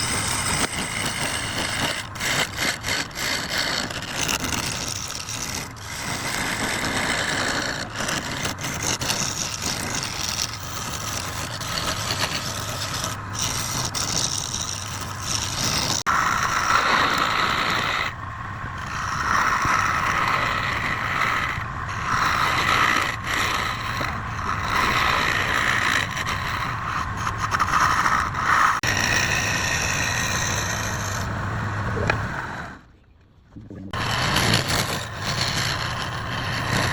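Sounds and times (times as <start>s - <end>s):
wood lathe humming: 0.0s - 32.8s, 34.0s - 36.9s
turning tool scraping wood: 0.0s - 32.9s, 33.9s - 36.9s.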